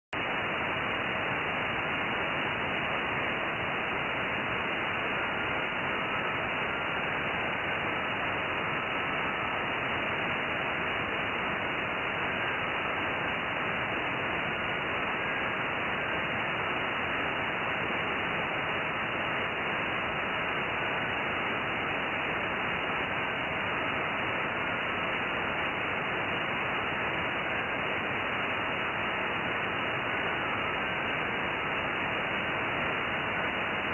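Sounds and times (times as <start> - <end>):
radio receiver hiss: 0.2 - 33.9.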